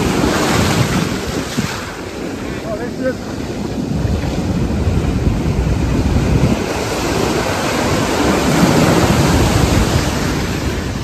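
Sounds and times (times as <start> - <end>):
waves breaking and surf washing: 0.0 - 11.0
wind rumbling on microphone: 0.0 - 11.0.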